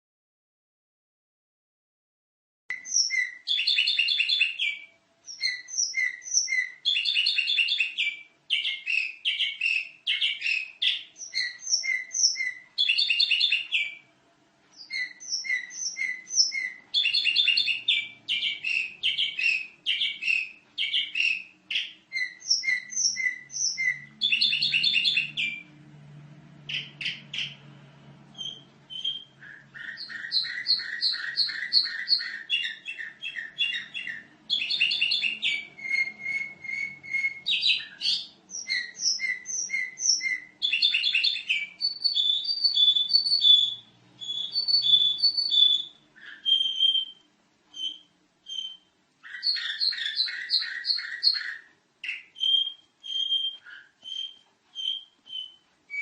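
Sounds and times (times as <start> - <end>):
canary trilling: 2.7 - 14.1, 14.7 - 56.0.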